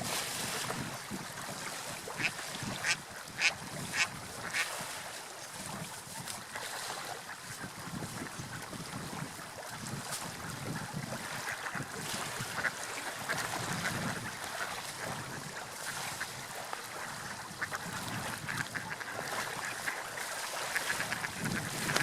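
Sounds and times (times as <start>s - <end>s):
water lapping and splashing: 0.0s - 22.0s.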